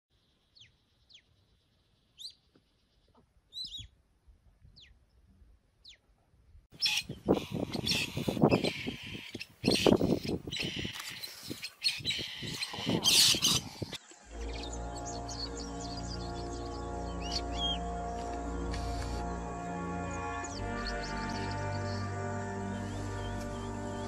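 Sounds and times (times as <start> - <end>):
birds chirping: 0.2 - 4.0, 6.7 - 24.0.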